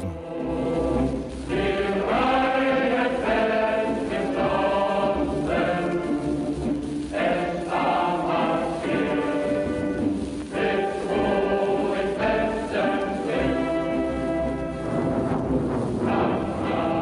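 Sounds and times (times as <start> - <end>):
choir singing held notes: 0.0 - 15.1, 16.0 - 17.0.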